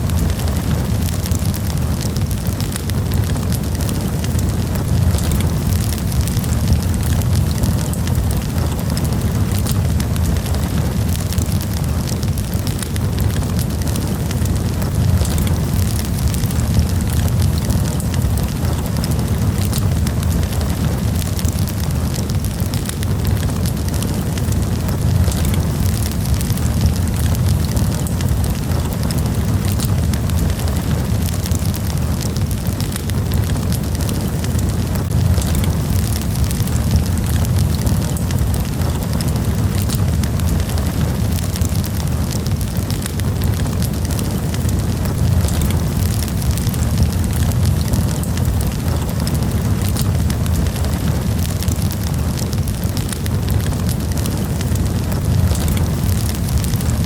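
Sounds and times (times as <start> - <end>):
campfire crackling: 0.0 - 57.0
low rumble of flames: 0.0 - 57.0.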